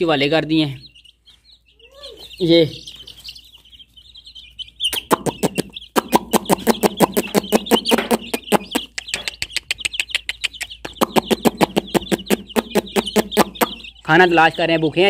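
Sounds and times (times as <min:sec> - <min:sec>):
beaks pecking on concrete: 0:00.0 - 0:15.0
chicks peeping: 0:00.0 - 0:15.0.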